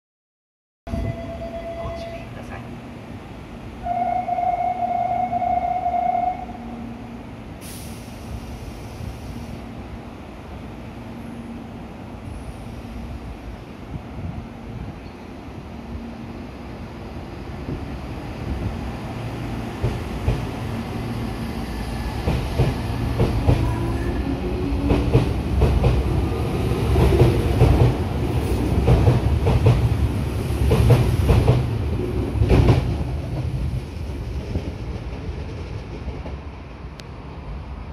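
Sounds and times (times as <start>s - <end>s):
electric train rumbling: 0.9s - 37.9s.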